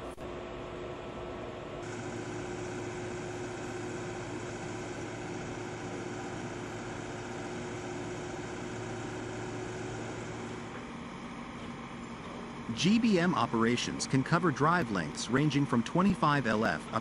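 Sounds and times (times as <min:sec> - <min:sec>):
machinery engine humming: 0:01.8 - 0:17.0.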